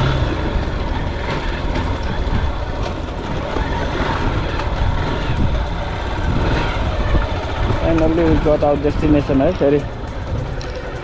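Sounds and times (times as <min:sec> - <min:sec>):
motorcycle engine at low speed: 0:00.0 - 0:11.0
wind rumble on microphone: 0:00.0 - 0:11.0.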